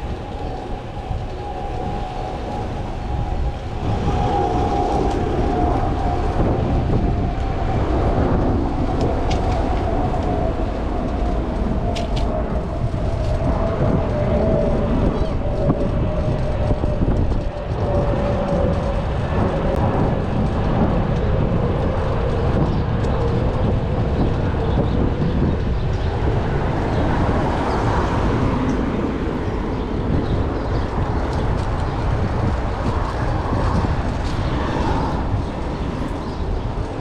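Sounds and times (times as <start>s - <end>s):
city traffic rumble: 0.0s - 37.0s.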